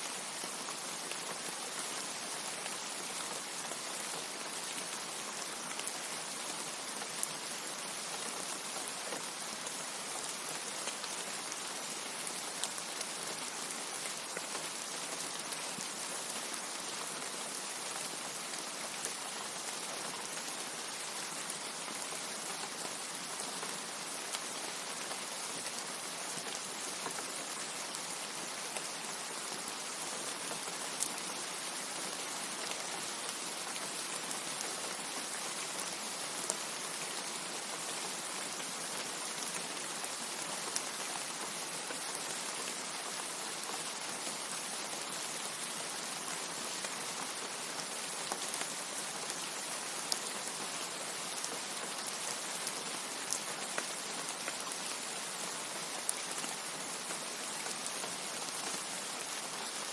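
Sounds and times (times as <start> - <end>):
hissing rain: 0.0 - 59.9.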